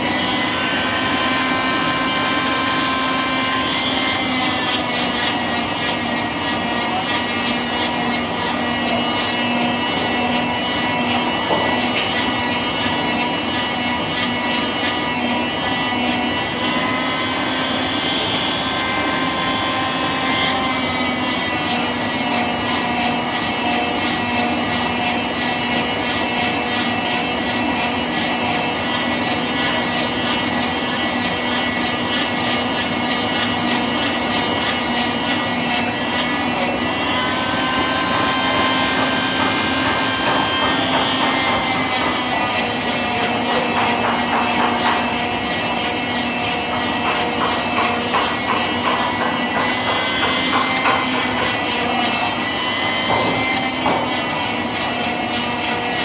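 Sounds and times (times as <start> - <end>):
shop vacuum whining: 0.0 - 56.0.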